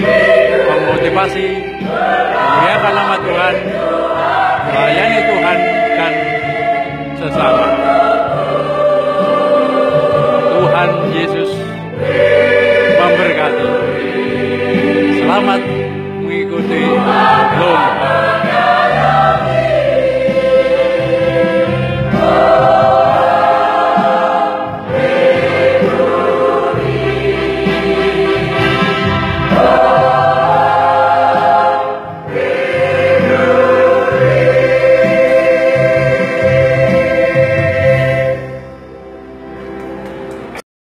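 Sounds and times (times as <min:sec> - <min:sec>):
mixed choir singing chords: 0:00.0 - 0:40.6.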